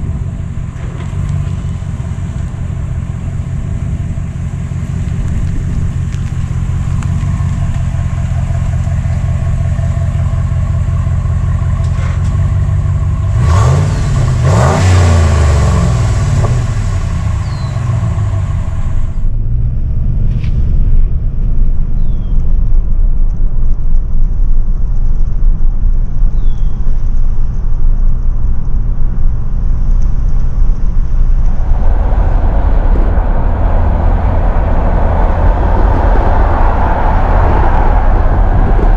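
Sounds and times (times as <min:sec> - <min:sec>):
truck engine: 0:00.0 - 0:21.8, 0:28.8 - 0:38.9
road noise: 0:00.0 - 0:38.9.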